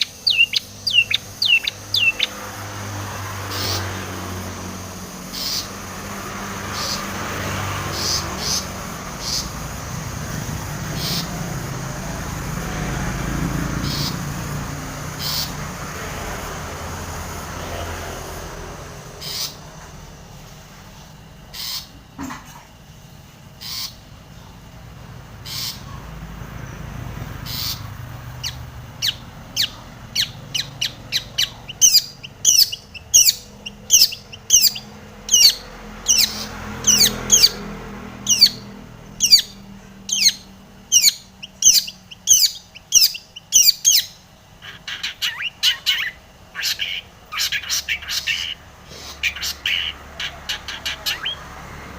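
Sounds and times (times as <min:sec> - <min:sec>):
shrike calling: 0:00.0 - 0:16.4, 0:25.3 - 0:51.9.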